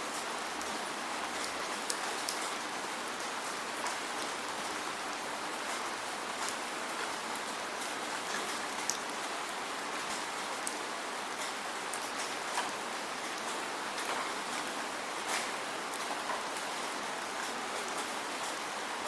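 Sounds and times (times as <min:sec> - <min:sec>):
steady rain falling: 0:00.0 - 0:19.0
sharp raindrop ticks: 0:00.2 - 0:18.7.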